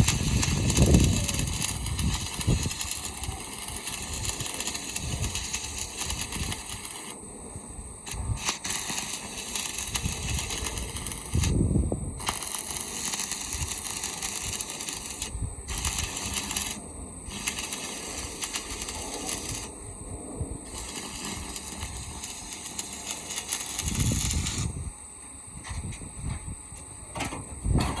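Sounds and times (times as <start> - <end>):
electric arc welding crackling: 0.0 - 7.3, 8.0 - 19.8, 20.6 - 24.8.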